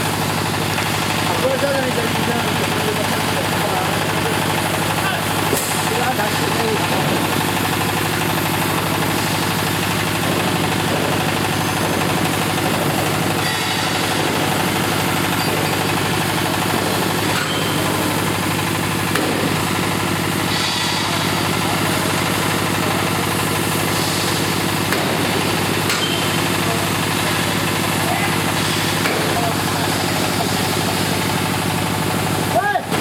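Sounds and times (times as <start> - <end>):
drilling rig engine knocking: 0.0 - 33.0.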